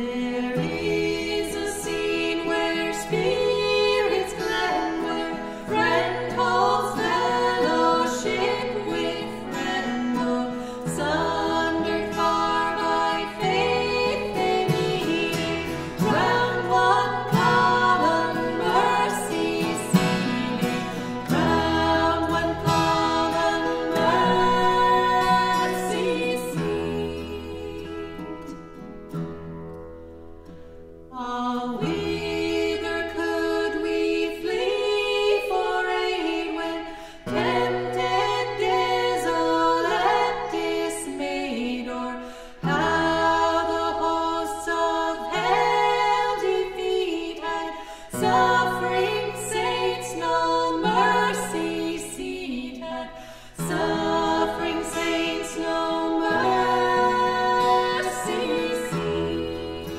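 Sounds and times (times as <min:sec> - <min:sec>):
women singing in harmony: 0:00.0 - 0:28.6, 0:31.1 - 0:59.9.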